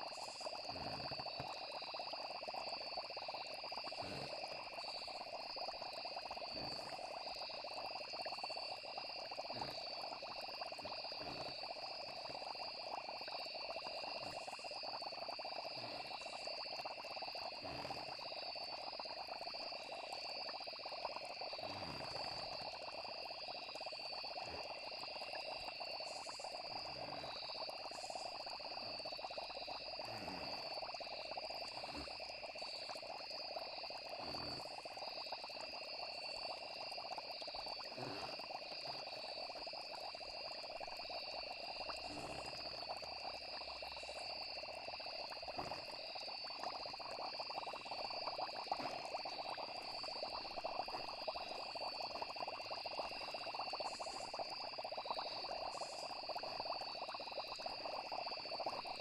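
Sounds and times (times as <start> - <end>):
frog chorus: 0.0 - 59.0
insect trills: 0.0 - 59.0.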